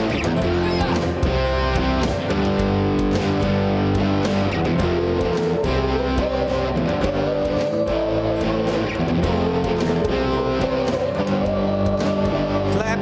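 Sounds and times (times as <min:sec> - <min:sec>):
bass line: 0:00.0 - 0:13.0
strummed electric guitar: 0:00.0 - 0:13.0.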